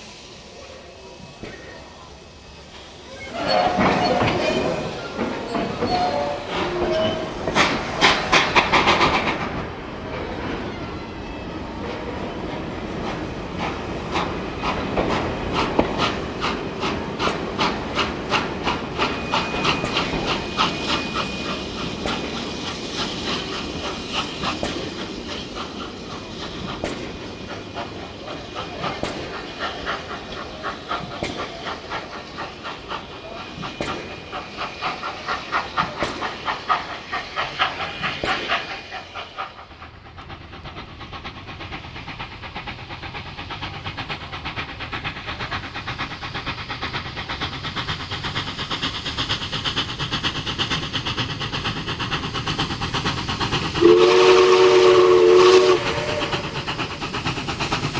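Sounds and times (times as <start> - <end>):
steam locomotive exhaust chuffing: 0.0 - 10.6, 11.4 - 57.9
steam hiss: 0.0 - 57.9.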